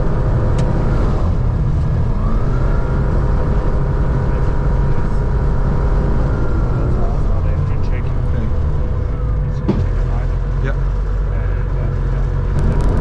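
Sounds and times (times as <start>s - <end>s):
aircraft engine and propeller: 0.0s - 13.0s.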